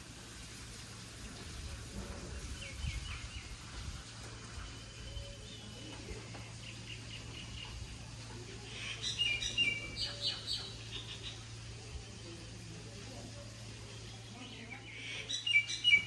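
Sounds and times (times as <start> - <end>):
small birds chirping: 2.0 - 16.0.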